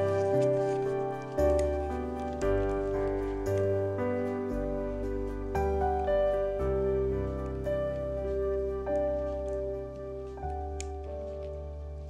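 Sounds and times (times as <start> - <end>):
soft keyboard chords: 0.0 - 12.0.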